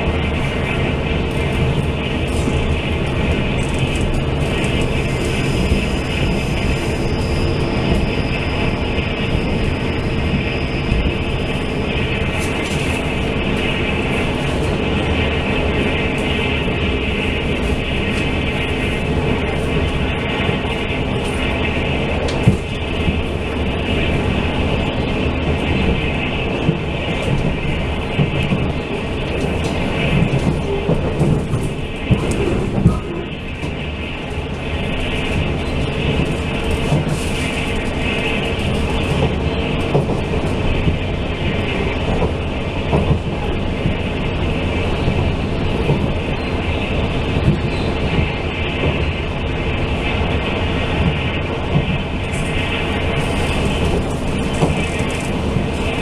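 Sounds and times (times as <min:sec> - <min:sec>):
train car rumble: 0:00.0 - 0:56.0
wheels clicking over rails: 0:00.0 - 0:56.0.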